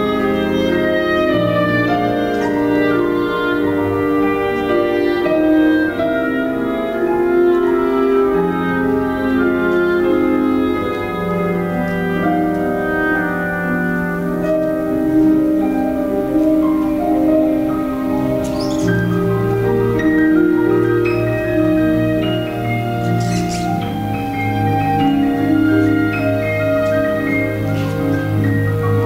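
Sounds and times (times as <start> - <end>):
slow instrumental ballet music: 0.0 - 29.0.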